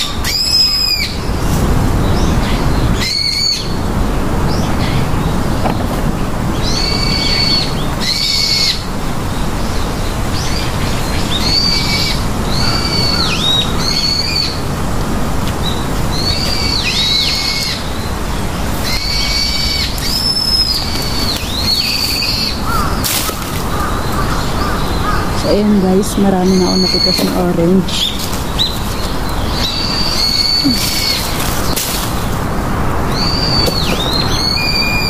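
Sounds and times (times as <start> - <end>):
bird calling: 0.0 - 3.9, 4.5 - 14.7, 15.6 - 32.4, 33.1 - 35.0
steady low rushing noise: 0.0 - 35.0.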